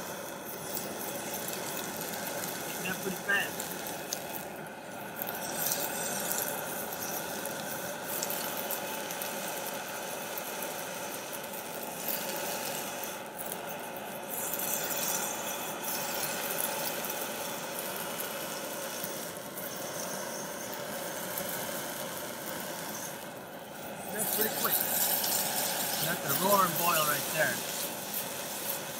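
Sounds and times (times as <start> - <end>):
gas burner jet hissing: 0.0 - 28.9
water boiling: 0.0 - 28.9.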